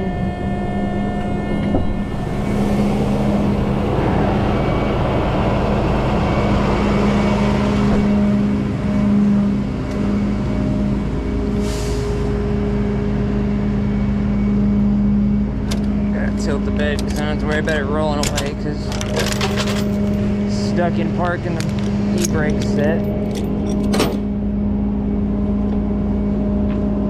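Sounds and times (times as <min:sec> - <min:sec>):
tow truck engine humming: 0:00.0 - 0:27.0.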